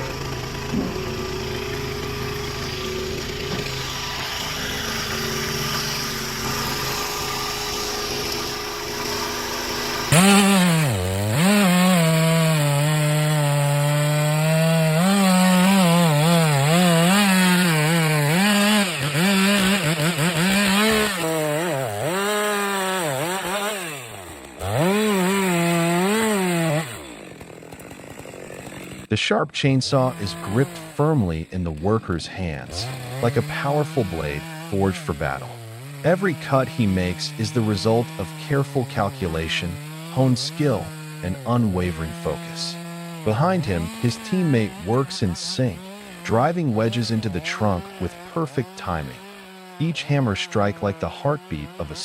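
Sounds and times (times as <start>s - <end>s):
steady engine hum: 0.0s - 26.8s, 30.0s - 52.0s
chainsaw cutting wood: 0.0s - 29.1s, 29.8s - 52.0s.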